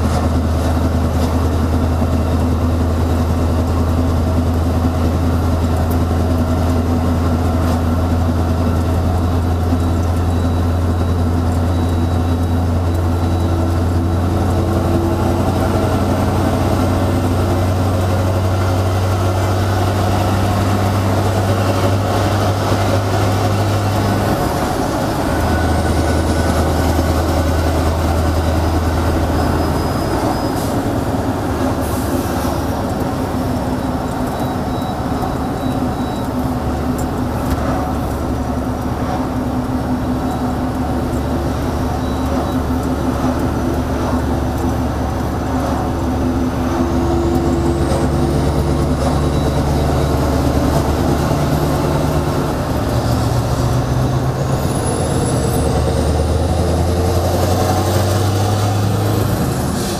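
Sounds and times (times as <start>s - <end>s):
diesel truck engine exhaust drone: 0.0s - 59.9s.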